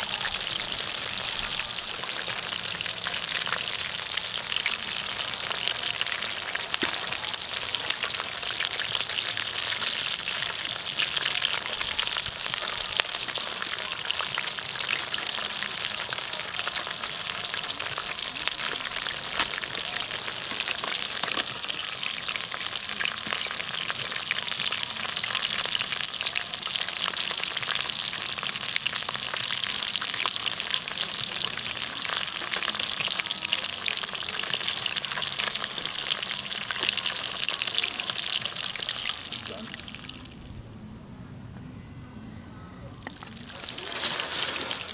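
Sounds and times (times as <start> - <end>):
food sizzling in a hot pan: 0.0 - 40.3, 43.2 - 44.9.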